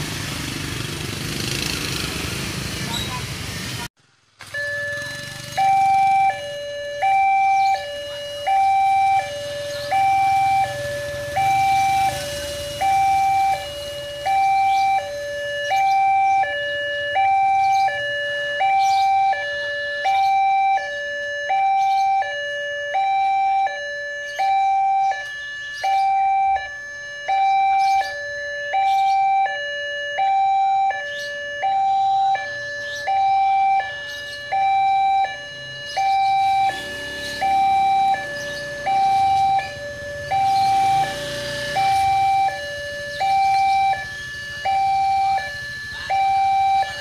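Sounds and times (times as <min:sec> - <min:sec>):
two-tone crossing alarm: 0:00.0 - 0:47.0.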